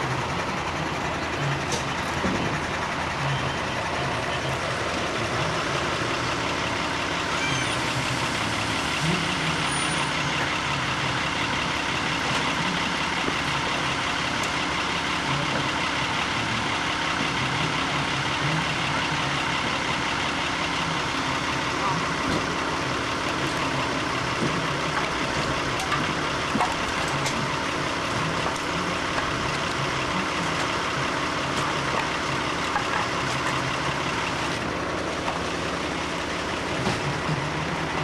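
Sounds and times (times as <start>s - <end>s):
motor engine running steadily: 0.0s - 38.0s.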